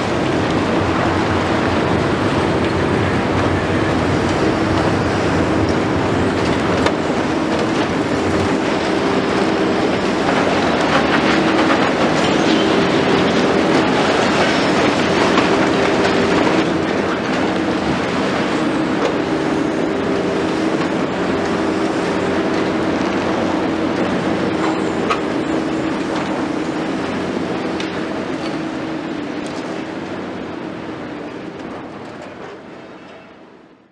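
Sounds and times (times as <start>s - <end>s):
excavator diesel and hydraulics: 0.0s - 33.9s
low hydraulic whine: 0.0s - 33.9s.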